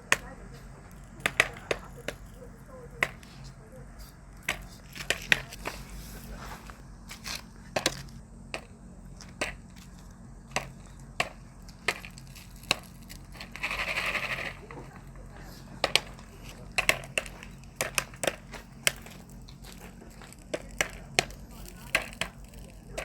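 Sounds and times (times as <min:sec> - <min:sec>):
popcorn kernels popping: 0:00.0 - 0:23.0.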